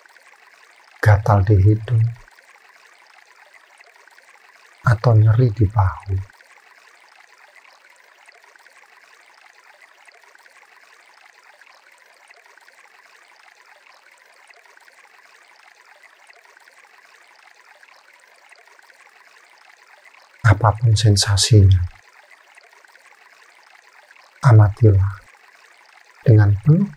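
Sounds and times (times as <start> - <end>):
faint running water: 0.0 - 26.9.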